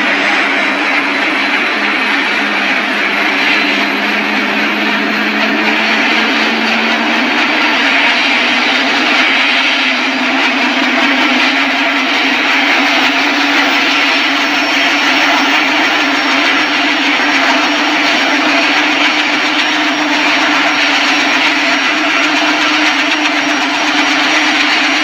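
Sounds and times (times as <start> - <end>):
helicopter engine and rotors: 0.0 - 25.0.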